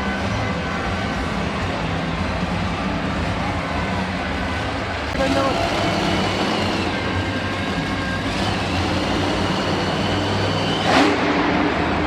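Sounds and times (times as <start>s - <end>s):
monster truck engine drone: 0.0s - 12.0s.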